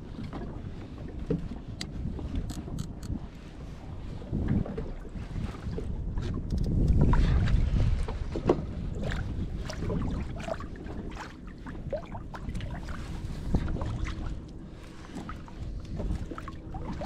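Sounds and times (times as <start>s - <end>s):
water lapping against hull: 0.0s - 17.0s
wind buffeting microphone: 0.0s - 17.0s.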